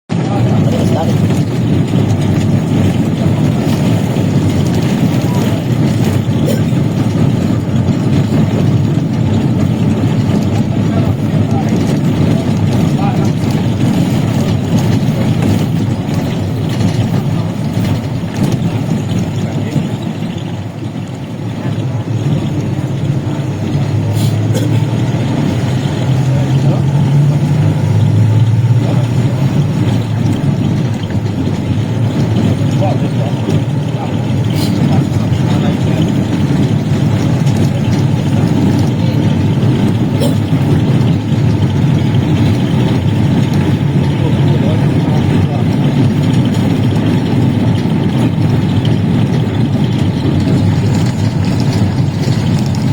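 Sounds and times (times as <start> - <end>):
engine running: 0.1 - 52.9
vehicle rumbling: 0.1 - 52.9.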